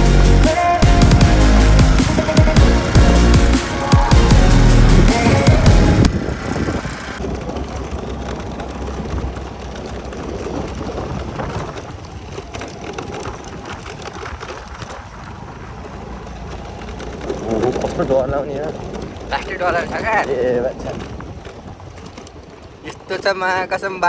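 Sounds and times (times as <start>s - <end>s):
rattling and crunching: 0.0s - 23.1s
vehicle on rough unpaved road: 0.0s - 24.0s.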